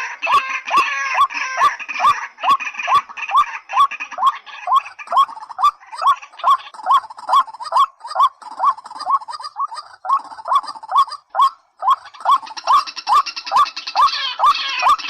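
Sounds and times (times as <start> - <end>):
rail bird calling: 0.0 - 15.0.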